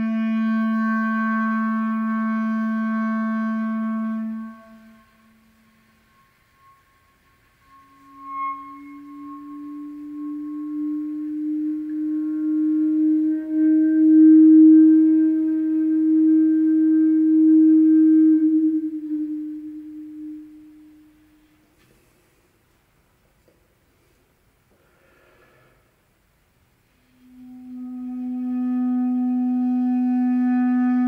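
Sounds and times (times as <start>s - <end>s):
clarinet long low note: 0.0s - 21.8s, 27.0s - 31.0s
faint high clarinet tone: 0.0s - 22.1s, 26.9s - 31.0s.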